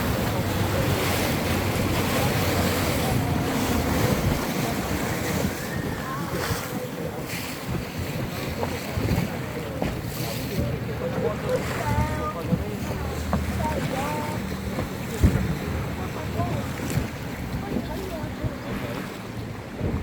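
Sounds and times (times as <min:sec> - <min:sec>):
boat engine hum: 0:00.0 - 0:20.0
water splashing against hull: 0:00.0 - 0:20.0
wind buffeting microphone: 0:00.0 - 0:20.0.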